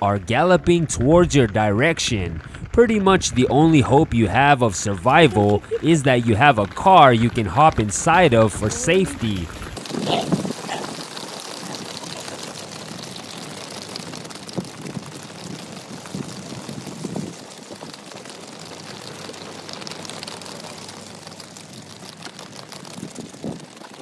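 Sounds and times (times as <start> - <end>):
hooves clattering on asphalt: 0.0 - 24.0.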